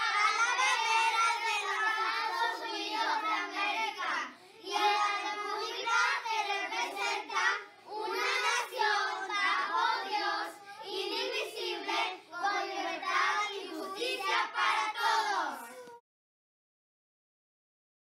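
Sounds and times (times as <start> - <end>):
child reciting: 0.0 - 16.0.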